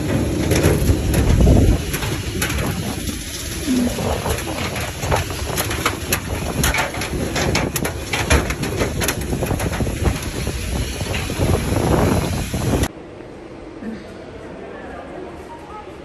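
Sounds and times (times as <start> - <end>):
footsteps on metal steps: 0.0 - 12.9
steady low rumble: 0.0 - 12.9.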